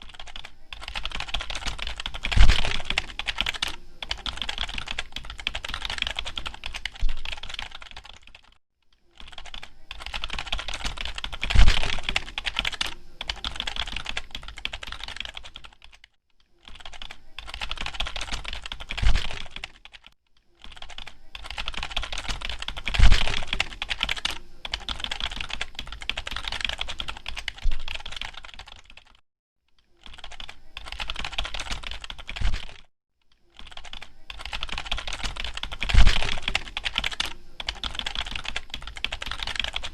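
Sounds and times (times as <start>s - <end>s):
computer keyboard typing: 0.0s - 29.2s, 30.0s - 32.9s, 33.5s - 39.9s.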